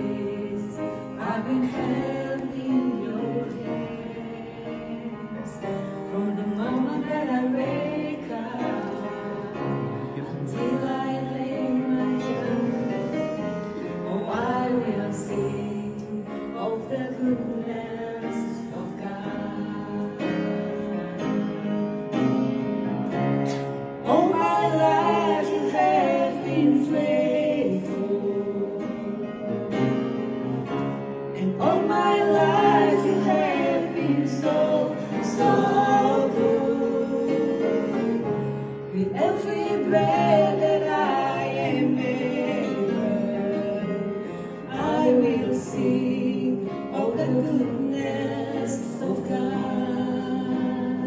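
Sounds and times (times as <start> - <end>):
women singing a worship song: 0.0 - 21.0, 23.5 - 29.4, 31.3 - 51.0
piano accompaniment: 0.0 - 51.0.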